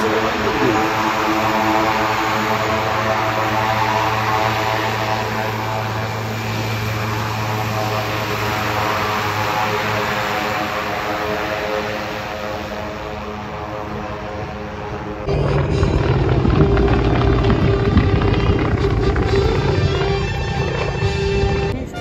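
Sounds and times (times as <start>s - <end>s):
turboprop engine running: 0.0s - 21.8s
low drone: 0.0s - 21.9s.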